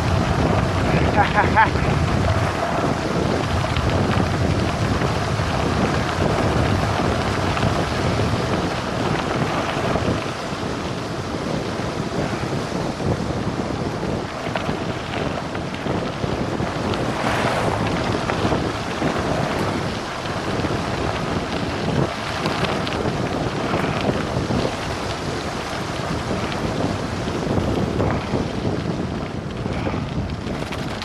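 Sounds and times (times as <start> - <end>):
tyres rumbling on loose gravel: 0.0 - 31.0
wind rushing over microphone: 0.0 - 31.0.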